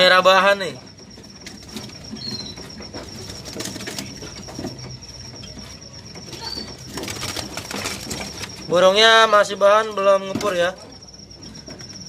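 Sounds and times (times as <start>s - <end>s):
birds fluttering in cages: 0.0s - 12.0s.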